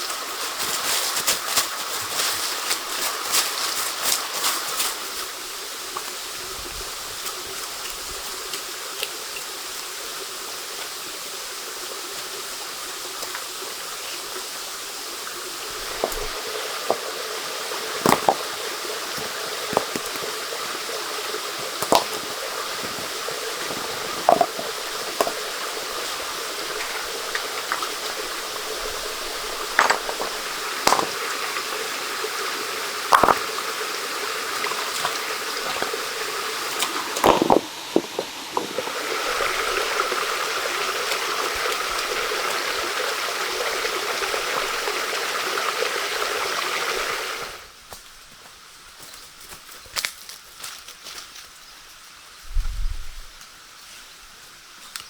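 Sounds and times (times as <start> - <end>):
running water: 0.0 - 47.8.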